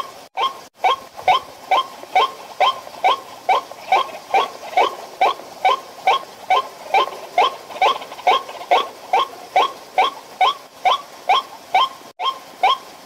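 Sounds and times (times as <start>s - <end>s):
bird calling harsh notes: 0.4s - 12.8s.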